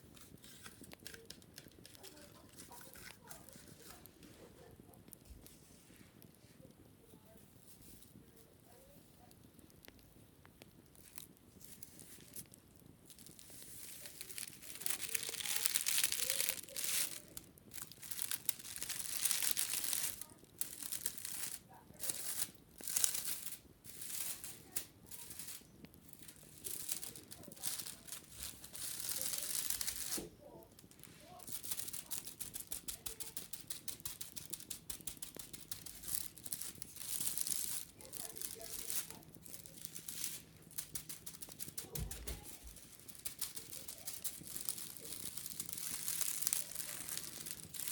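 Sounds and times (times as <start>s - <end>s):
wicker basket being scratched: 0.0s - 4.7s, 13.1s - 47.9s.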